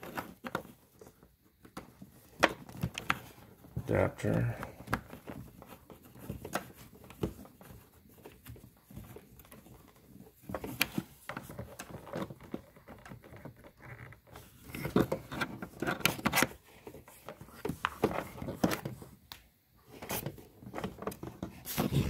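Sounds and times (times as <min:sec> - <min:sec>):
cables and connectors handled: 0:00.0 - 0:22.0.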